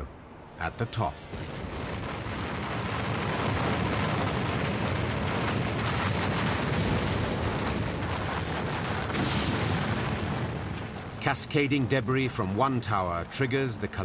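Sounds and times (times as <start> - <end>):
building collapsing rumble: 0.0 - 14.0
cracks and crashes: 1.3 - 13.5.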